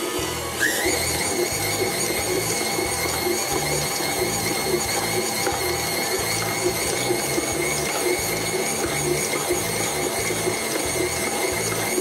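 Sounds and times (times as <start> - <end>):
beater churning thick dough: 0.0 - 12.0
stand mixer motor whine: 0.0 - 12.0.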